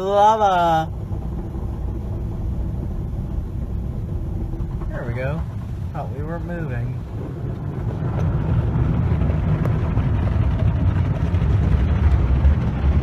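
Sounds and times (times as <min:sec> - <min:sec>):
car wash machinery rumble: 0:00.0 - 0:13.0.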